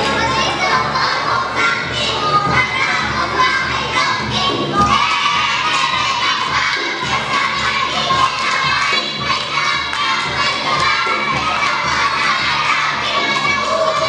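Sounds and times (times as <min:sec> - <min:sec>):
children shouting: 0:00.0 - 0:14.0.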